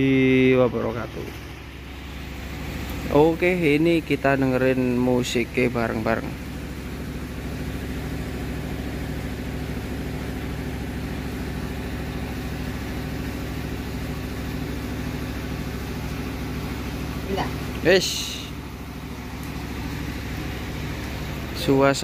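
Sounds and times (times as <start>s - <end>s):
low engine-like drone: 0.0s - 22.0s.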